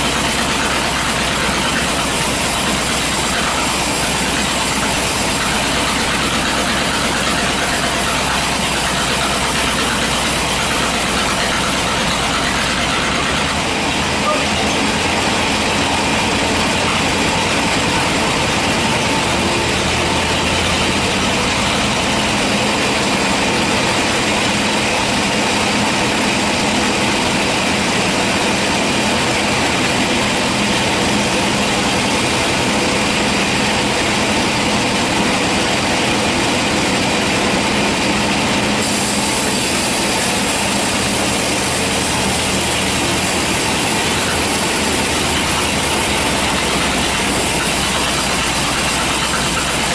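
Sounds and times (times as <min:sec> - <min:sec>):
band sawmill sawing log: 0:00.0 - 0:49.9.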